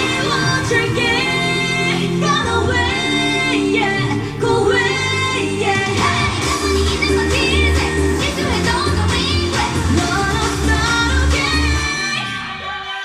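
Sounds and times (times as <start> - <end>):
female voices singing: 0.0 - 13.0
pop backing track: 0.0 - 13.0.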